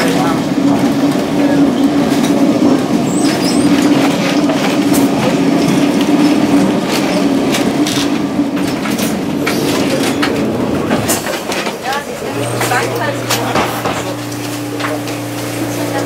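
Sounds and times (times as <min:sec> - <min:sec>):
tram motor hum and rumble: 0:00.0 - 0:16.0
wheels clicking on rails: 0:00.0 - 0:16.0.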